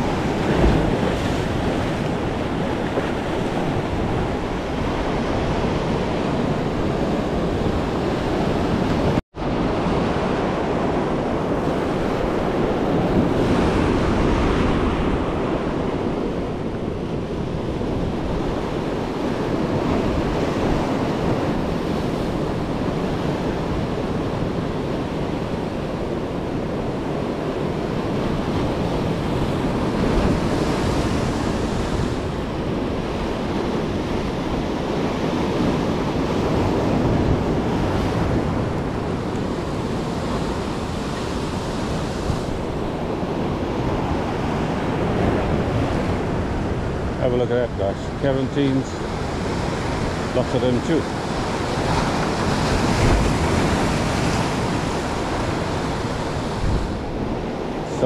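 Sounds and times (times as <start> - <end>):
ocean surf washing on beach: 0.0 - 58.0
wind buffeting microphone: 0.0 - 58.0.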